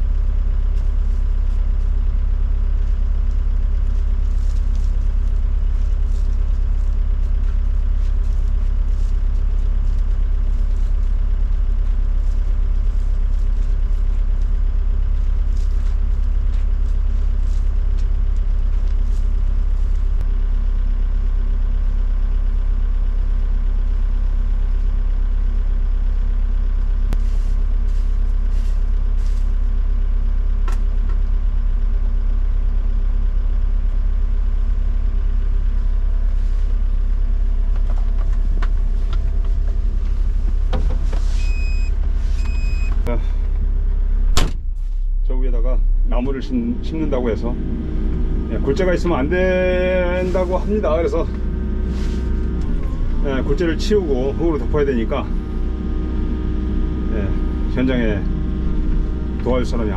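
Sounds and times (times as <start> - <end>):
excavator diesel engine idling: 0.0 - 59.9.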